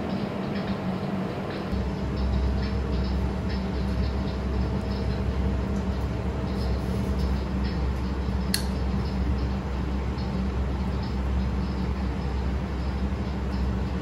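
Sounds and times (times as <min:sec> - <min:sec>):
kitchen equipment rumble: 0:00.0 - 0:14.0.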